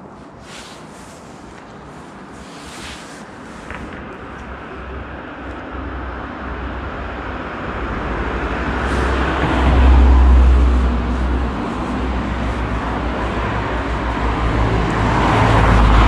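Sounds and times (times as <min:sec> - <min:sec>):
car passing: 0:00.5 - 0:16.0.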